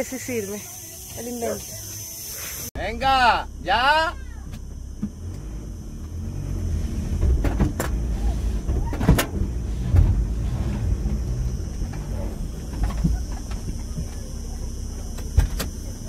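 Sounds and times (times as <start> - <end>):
van engine revving: 2.8 - 16.0.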